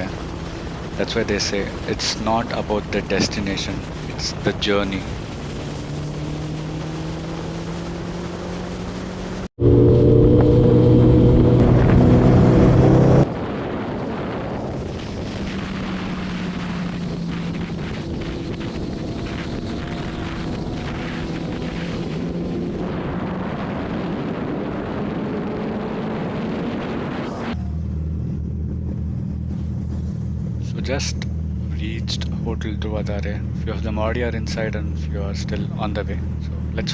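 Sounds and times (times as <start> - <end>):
motorcycle engines at speed: 0.0 - 36.9
wind and road noise: 0.0 - 36.9.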